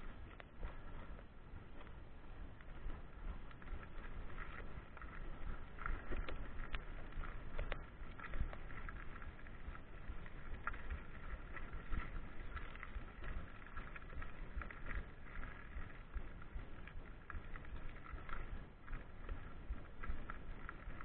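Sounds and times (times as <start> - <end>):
bike rattling: 0.0 - 21.0.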